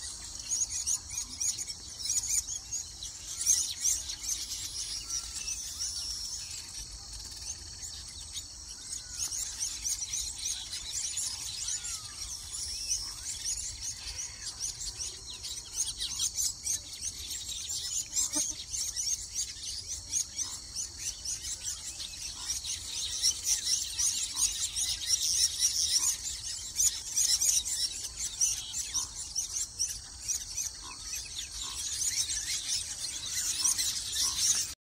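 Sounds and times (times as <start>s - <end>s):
birds chattering and chirping: 0.0s - 34.8s.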